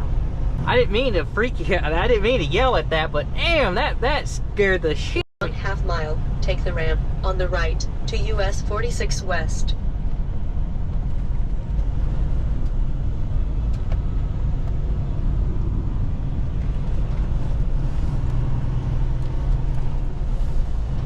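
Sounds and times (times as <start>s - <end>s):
road noise rumble: 0.0s - 21.0s
truck engine drone: 0.0s - 21.0s.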